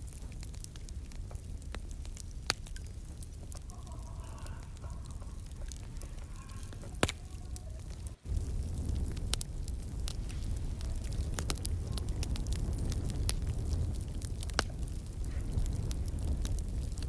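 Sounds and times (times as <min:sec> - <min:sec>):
fire crackling: 0:00.0 - 0:17.0
fire low rumble: 0:00.0 - 0:17.0
sharp pops of fire: 0:00.0 - 0:17.0.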